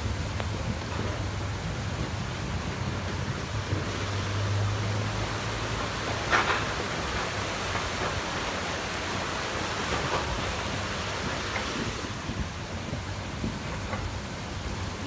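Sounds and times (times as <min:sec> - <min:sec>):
floodwater rushing in a channel: 0:00.0 - 0:15.0.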